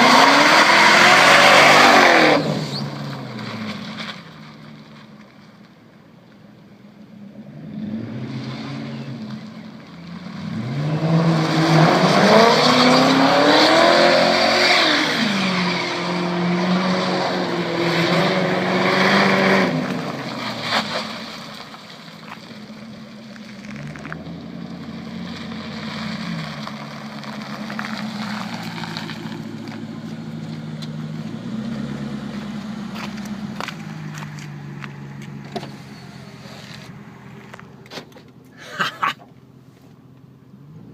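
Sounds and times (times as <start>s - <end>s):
car engine revving through open exhaust: 0.0s - 4.7s, 7.2s - 37.6s.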